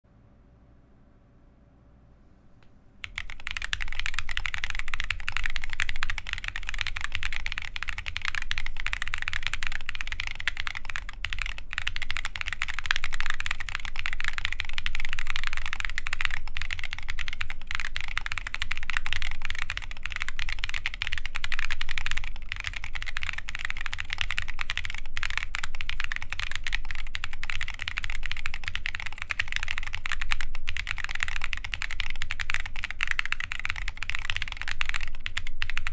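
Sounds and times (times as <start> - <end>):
mechanical keyboard typing: 3.0 - 35.9.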